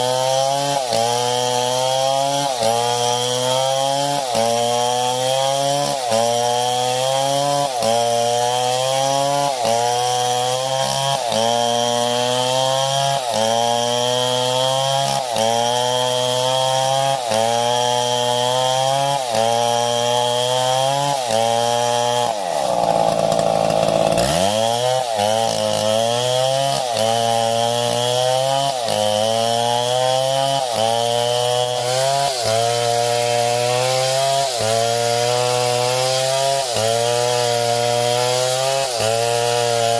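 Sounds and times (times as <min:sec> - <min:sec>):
chainsaw engine under load: 0:00.0 - 0:39.9.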